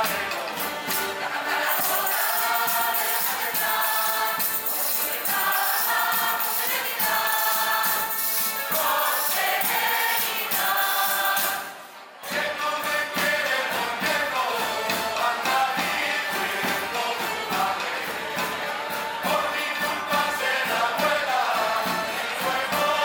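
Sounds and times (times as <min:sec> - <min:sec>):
accordion: 0:00.0 - 0:23.0
mixed choir singing folk song: 0:00.0 - 0:23.0
tambourines: 0:00.0 - 0:23.0.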